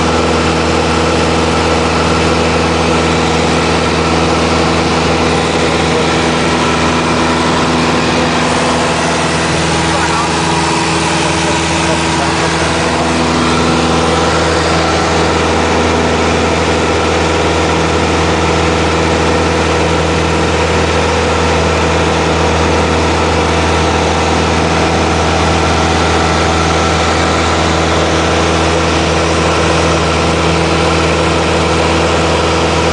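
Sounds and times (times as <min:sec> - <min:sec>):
light aircraft engine drone: 0:00.0 - 0:32.9.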